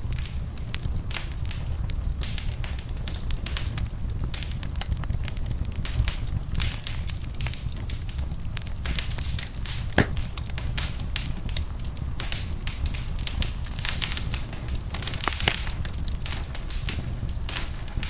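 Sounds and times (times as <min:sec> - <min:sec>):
loud pops of fire: 0:00.0 - 0:18.0
wood fire crackling: 0:00.0 - 0:18.0.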